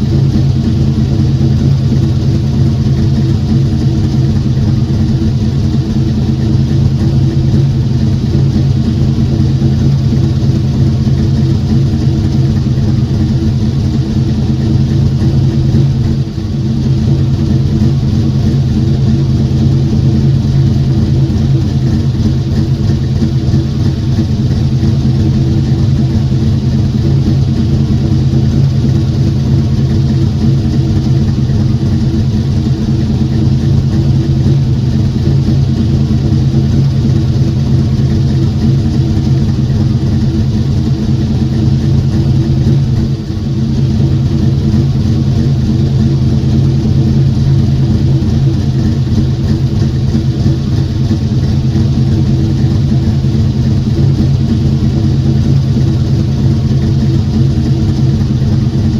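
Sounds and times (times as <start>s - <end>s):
car engine running steadily: 0.0s - 58.9s.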